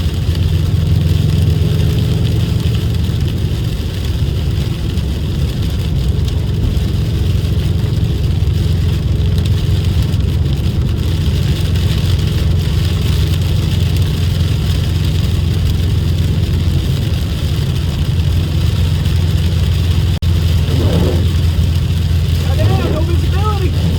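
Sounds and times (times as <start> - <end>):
car engine droning: 0.0 - 23.9
road noise hiss: 0.0 - 23.9.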